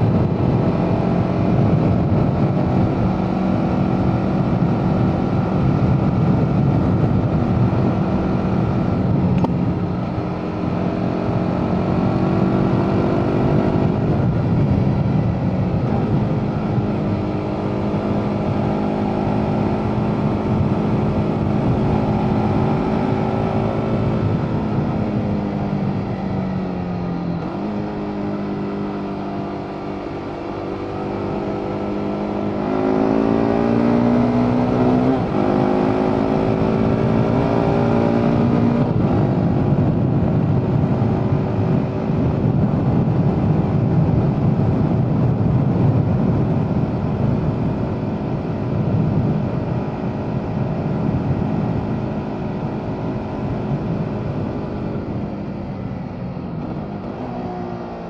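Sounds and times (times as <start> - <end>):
motorcycle engine revving: 0.0 - 58.0
wind rush over microphone: 0.0 - 58.0.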